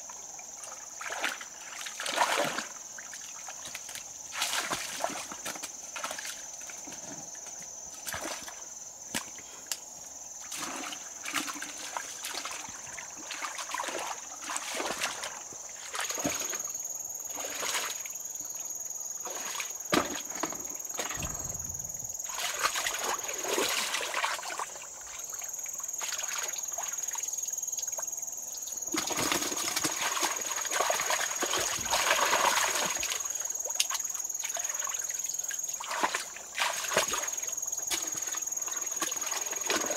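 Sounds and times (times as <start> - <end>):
splashing in shallow water: 0.6 - 7.2, 8.0 - 9.3, 10.4 - 18.2, 19.2 - 27.2, 28.8 - 39.9.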